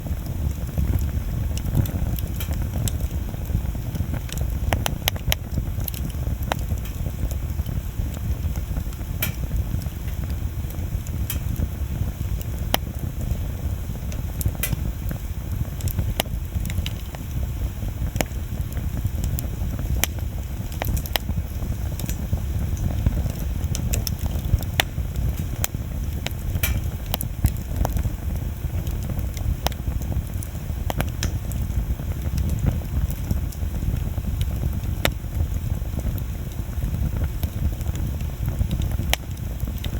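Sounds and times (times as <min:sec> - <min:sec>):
low rumble of fire: 0:00.0 - 0:39.9
wood crackling and popping: 0:00.0 - 0:39.9.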